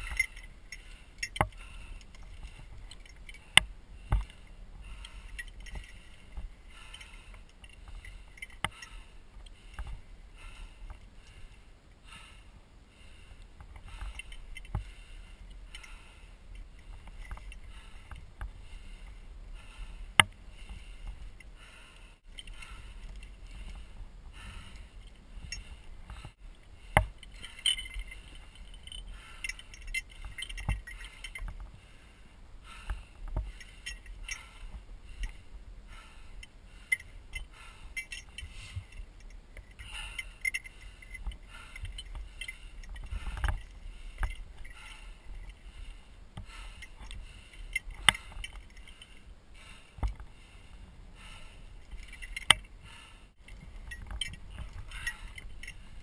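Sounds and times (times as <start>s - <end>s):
climbing gear clinking: 0.0s - 56.0s.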